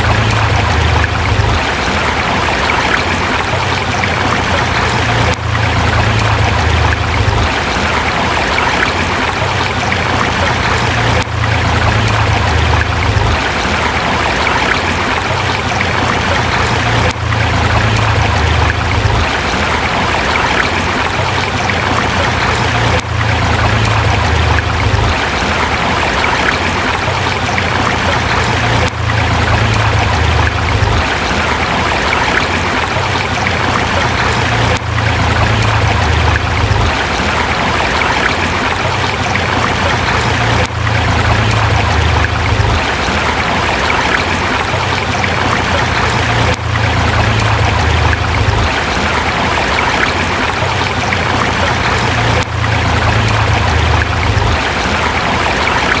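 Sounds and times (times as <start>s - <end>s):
low rumble of water: 0.0s - 56.0s
river rushing over rocks: 0.0s - 56.0s.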